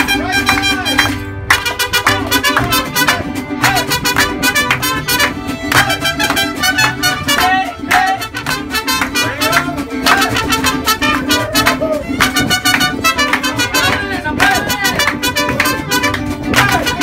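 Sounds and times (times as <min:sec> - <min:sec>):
violin melody: 0:00.0 - 0:14.0
strummed guitars: 0:00.0 - 0:17.0.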